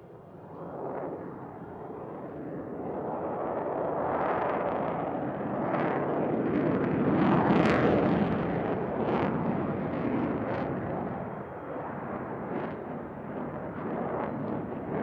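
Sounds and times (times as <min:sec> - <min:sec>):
jet roar overhead: 0:00.0 - 0:15.0.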